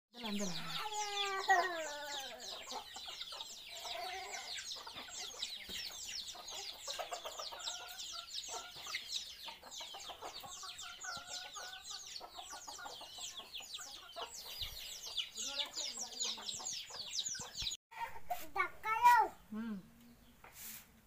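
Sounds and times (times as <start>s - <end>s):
chickens clucking: 0.2s - 19.2s.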